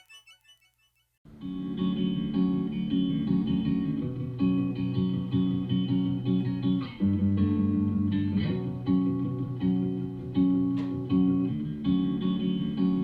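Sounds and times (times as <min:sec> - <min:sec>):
guitar-led music over speakers: 0:01.3 - 0:13.0.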